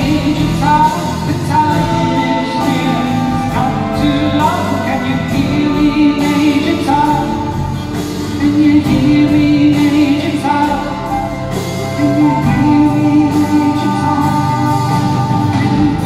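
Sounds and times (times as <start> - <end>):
guitar accompaniment: 0.0 - 16.0
person singing long notes: 0.0 - 16.0.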